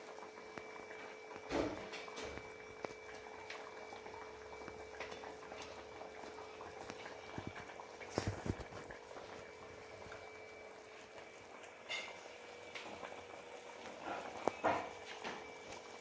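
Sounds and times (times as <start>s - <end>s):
curry bubbling in a pot: 0.0s - 16.0s.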